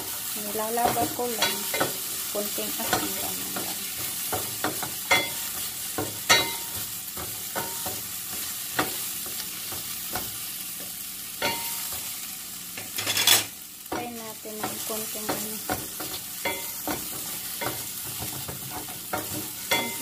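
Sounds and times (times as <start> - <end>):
spatula scraping and knocking pan: 0.0 - 12.2, 12.8 - 20.0
vegetables sizzling in oil: 0.0 - 20.0.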